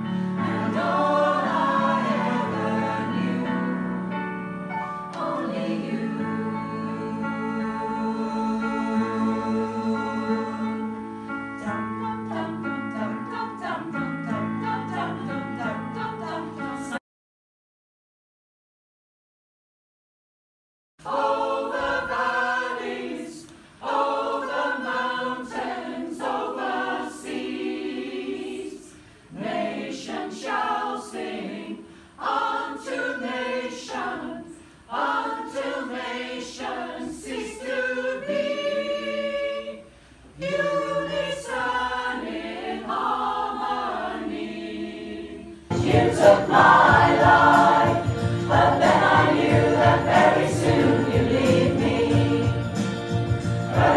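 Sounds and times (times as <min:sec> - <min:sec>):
choir singing: 0:00.0 - 0:17.0, 0:21.0 - 0:53.9.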